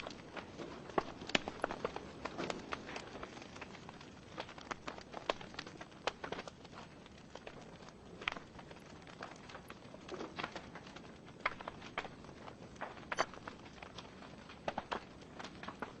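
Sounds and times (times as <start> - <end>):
burning logs popping and snapping: 0.0 - 16.0.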